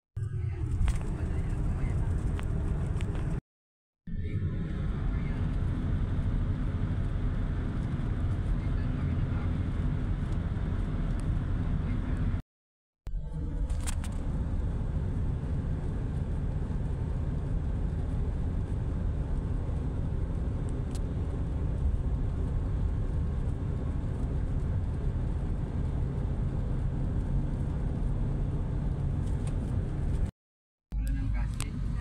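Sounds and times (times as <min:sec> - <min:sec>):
car engine and road noise: 0:00.2 - 0:03.4, 0:04.1 - 0:12.4, 0:13.1 - 0:30.3, 0:30.9 - 0:32.0.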